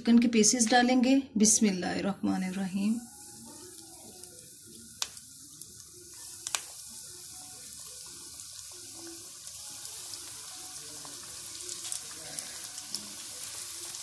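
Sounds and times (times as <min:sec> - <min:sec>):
chicken sizzling in hot oil: 0:02.7 - 0:14.0.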